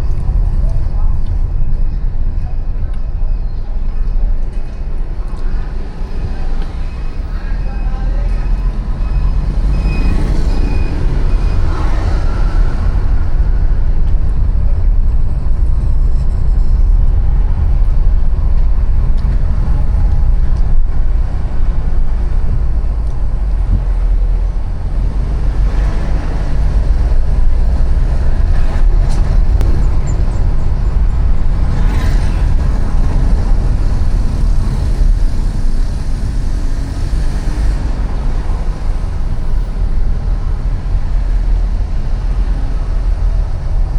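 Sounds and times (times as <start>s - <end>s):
heavy low rumble: 0.0s - 43.9s
passing cars and motorbikes: 0.0s - 43.9s.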